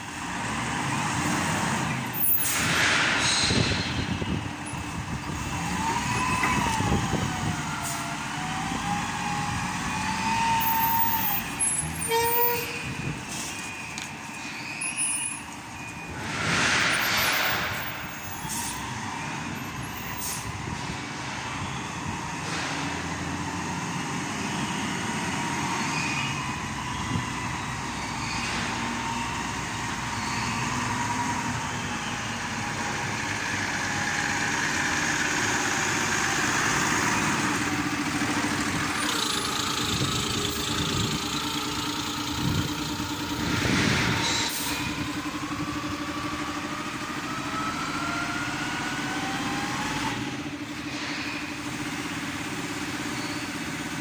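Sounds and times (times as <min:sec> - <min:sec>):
lift truck engine running: 0:00.0 - 0:54.0.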